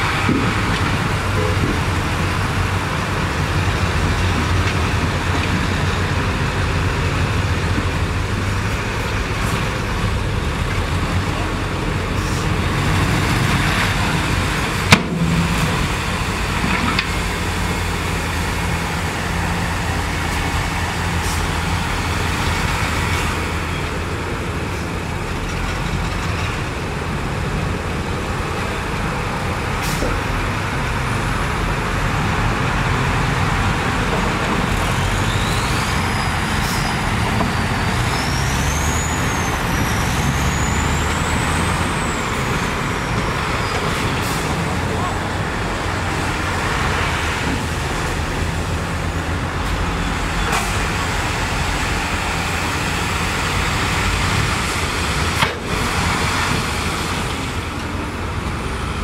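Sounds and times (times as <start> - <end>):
diesel truck engines droning: 0.0 - 59.0.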